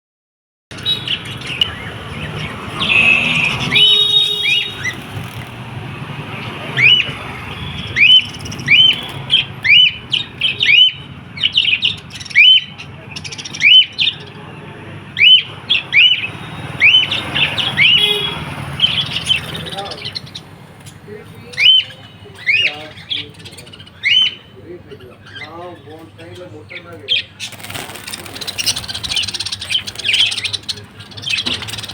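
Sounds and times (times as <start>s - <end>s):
parrots chirping: 0.7s - 31.9s.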